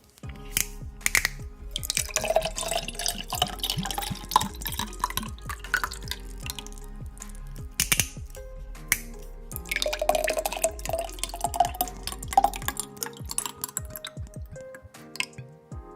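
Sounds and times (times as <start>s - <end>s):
wet drinking gulps: 1.0s - 8.2s, 9.0s - 14.6s.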